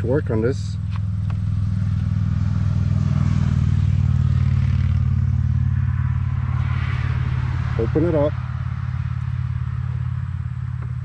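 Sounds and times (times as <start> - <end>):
low traffic drone: 0.0 - 11.0
vehicle passing: 0.0 - 11.0.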